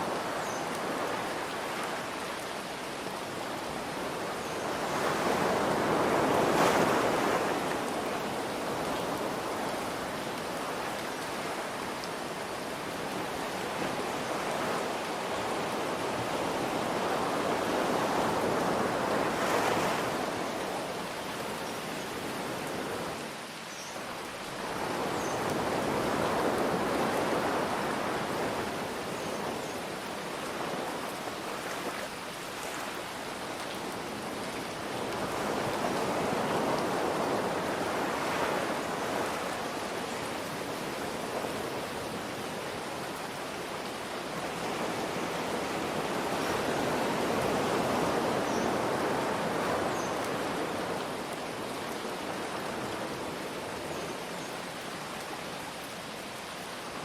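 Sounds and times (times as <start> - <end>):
ocean waves washing: 0.0 - 57.0
rain hiss: 0.0 - 57.0.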